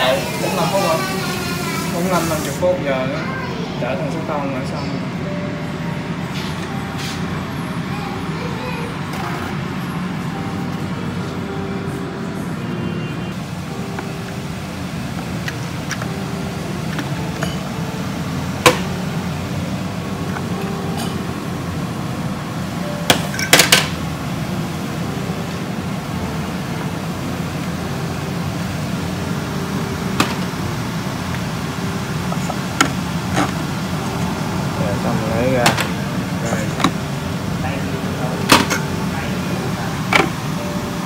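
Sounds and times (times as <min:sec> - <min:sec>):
steamer boiling water hum: 0:00.0 - 0:41.0.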